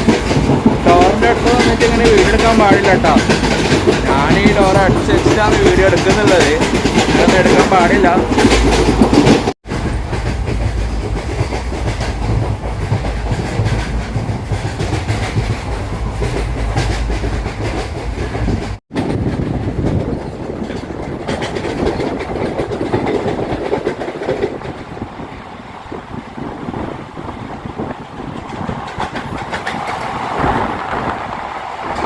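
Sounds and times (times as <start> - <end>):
wheels clattering over rail joints: 0.0 - 25.3, 26.2 - 32.0
train rumble: 0.0 - 32.0.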